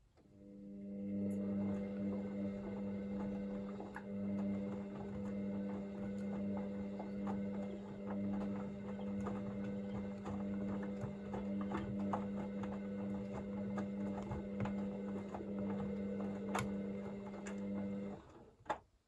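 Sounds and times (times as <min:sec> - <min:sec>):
washing machine motor hum: 0:00.2 - 0:19.0.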